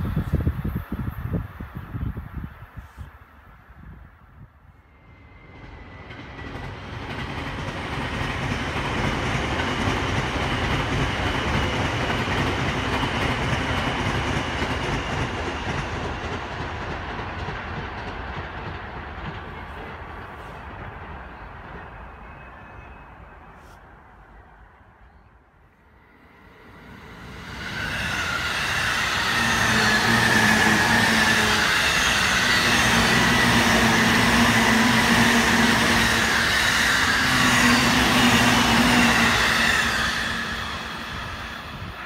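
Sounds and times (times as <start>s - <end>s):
electric train running on rails: 0.0s - 42.0s.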